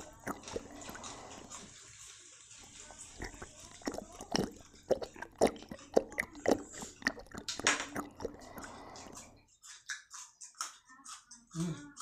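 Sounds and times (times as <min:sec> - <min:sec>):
crunchy chewing of raw bean: 0:00.0 - 0:11.8.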